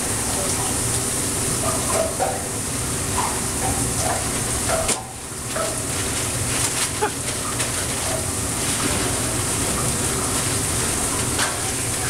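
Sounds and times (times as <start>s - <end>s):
burgers sizzling on griddle: 0.0s - 12.0s.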